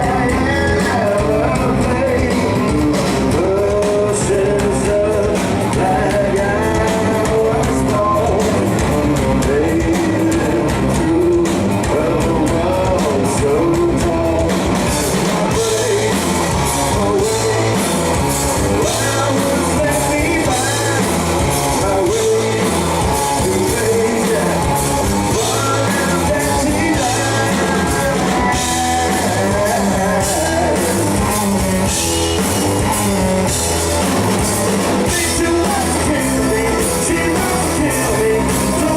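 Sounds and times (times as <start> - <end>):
drum kit: 0.0 - 38.9
guitar: 0.0 - 38.9
person singing: 0.0 - 38.9.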